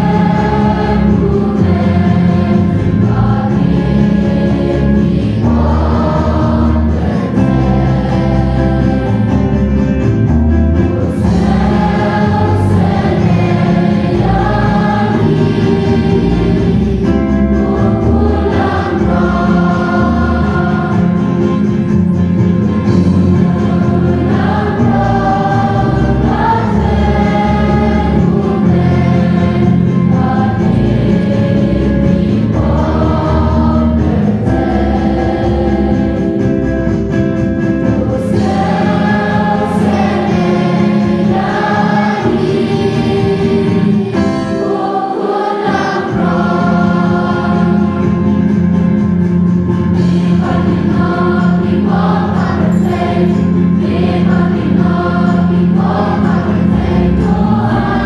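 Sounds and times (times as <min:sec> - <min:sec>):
choir singing a hymn: 0:00.0 - 0:58.0
low accompaniment: 0:00.0 - 0:58.0.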